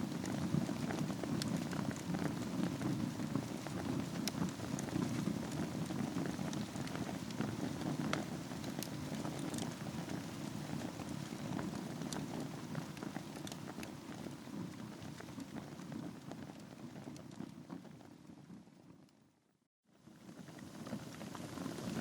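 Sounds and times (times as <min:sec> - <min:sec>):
logs crackling and popping: 0:00.0 - 0:18.9, 0:20.2 - 0:22.0
wood fire burning: 0:00.0 - 0:19.2, 0:20.0 - 0:22.0.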